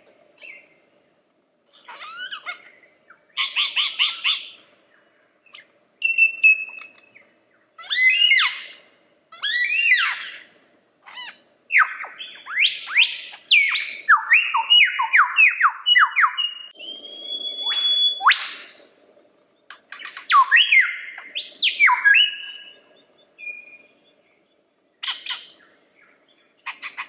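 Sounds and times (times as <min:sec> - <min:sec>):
lyrebird singing: 0:00.4 - 0:00.8, 0:01.7 - 0:08.8, 0:09.4 - 0:18.8, 0:19.5 - 0:27.0.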